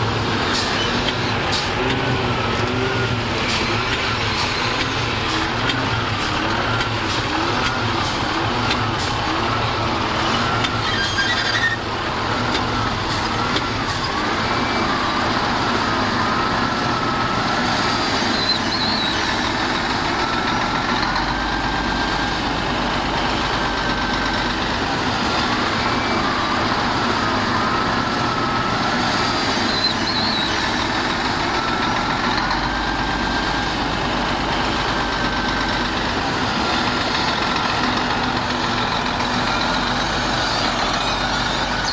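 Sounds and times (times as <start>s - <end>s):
heavy machinery engines running: 0.0s - 41.9s.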